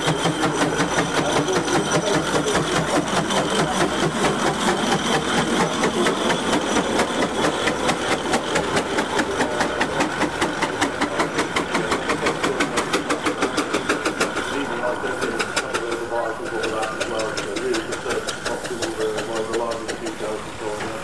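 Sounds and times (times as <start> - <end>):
engine running with fast beat: 0.0 - 21.0.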